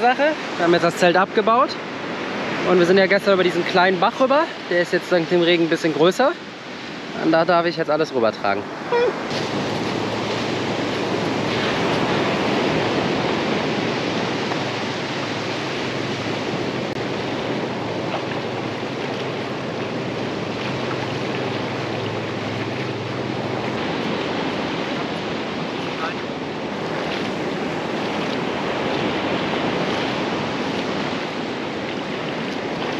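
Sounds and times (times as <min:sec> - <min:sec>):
creek rushing: 0:00.0 - 0:32.9.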